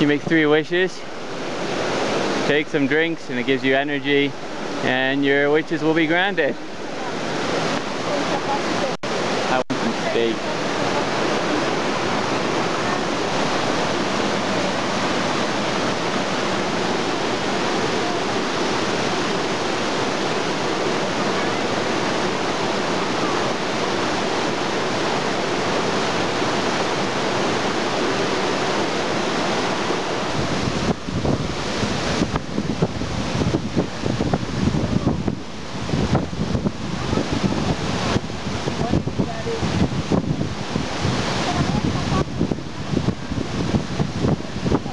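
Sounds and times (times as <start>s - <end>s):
waterfall rushing: 0.0s - 44.9s
low buffeting on microphone: 4.3s - 44.9s.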